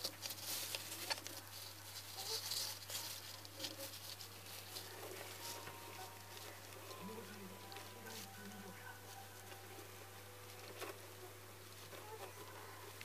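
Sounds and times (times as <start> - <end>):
hamster rustles: 0.0 - 13.0.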